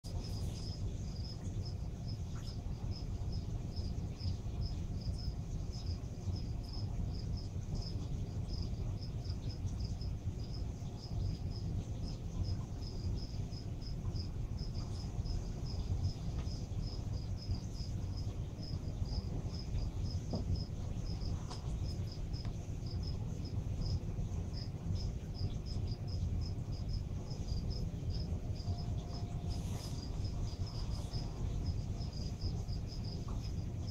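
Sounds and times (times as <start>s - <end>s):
aquarium equipment hum: 0.0s - 33.9s.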